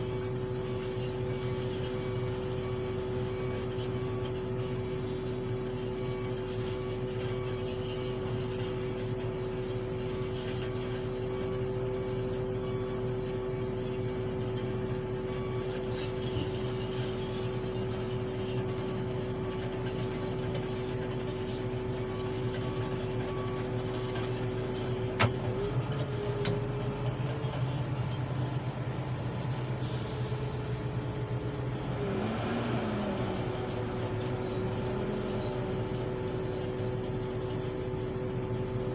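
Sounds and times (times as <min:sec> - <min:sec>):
diesel machinery drone: 0:00.0 - 0:38.9
machinery whine: 0:00.0 - 0:38.9.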